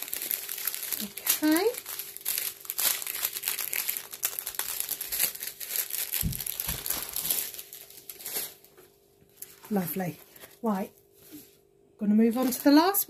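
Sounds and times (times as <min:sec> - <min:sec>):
plastic packaging crinkling: 0:00.0 - 0:11.4, 0:12.2 - 0:13.0.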